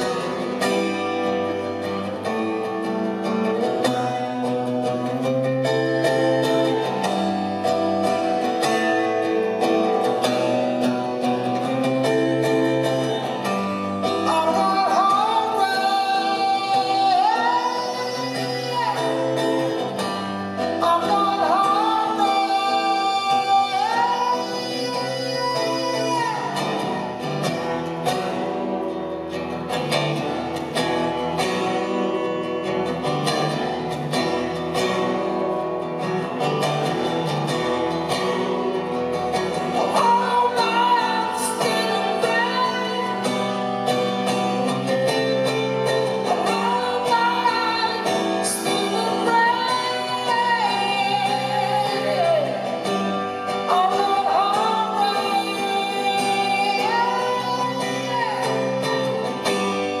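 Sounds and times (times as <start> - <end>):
man singing: 0.0 - 35.1, 36.0 - 60.0
acoustic guitar: 0.0 - 60.0.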